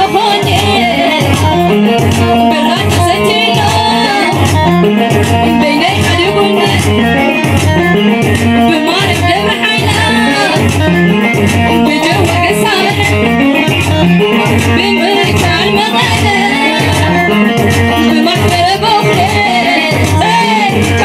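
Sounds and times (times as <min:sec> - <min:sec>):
strong steady beat: 0:00.4 - 0:21.0.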